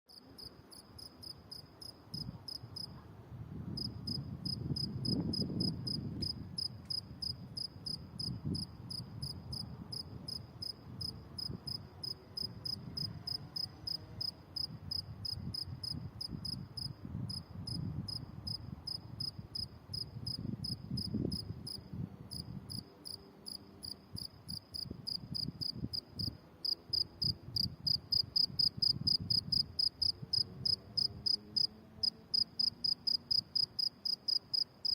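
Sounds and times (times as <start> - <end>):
cricket chirping: 0.1 - 2.9, 3.8 - 34.9.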